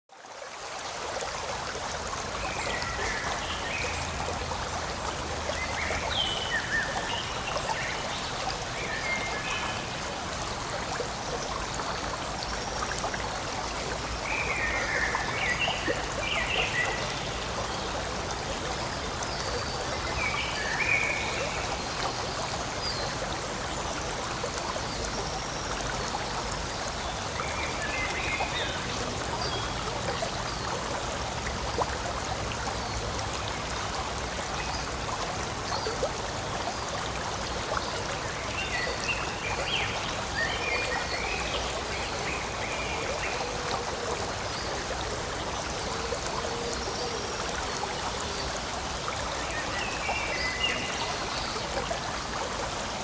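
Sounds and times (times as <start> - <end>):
stream flowing: 0.1 - 53.0.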